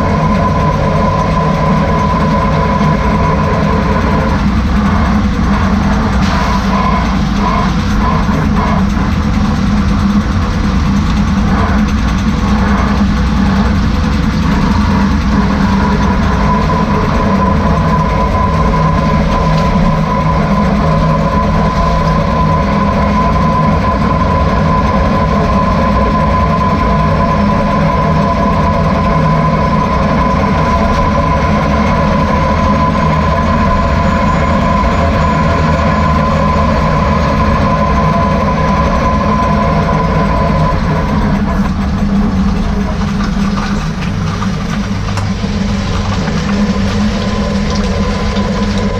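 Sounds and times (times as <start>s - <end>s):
drivetrain and road rumble: 0.0s - 48.9s
steady high whine: 0.0s - 48.9s.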